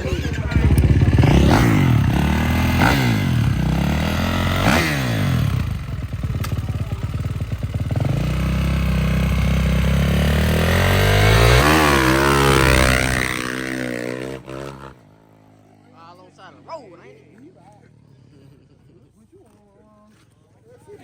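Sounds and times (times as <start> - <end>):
dirt bike engines revving: 0.0 - 19.6.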